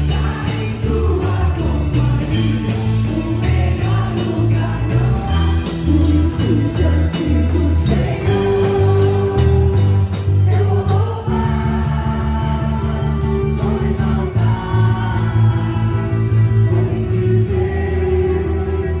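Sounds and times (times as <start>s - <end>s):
bass: 0.0s - 19.0s
drum kit: 0.0s - 19.0s
electric guitars: 0.0s - 19.0s
keyboard: 0.0s - 19.0s
people singing: 0.0s - 19.0s.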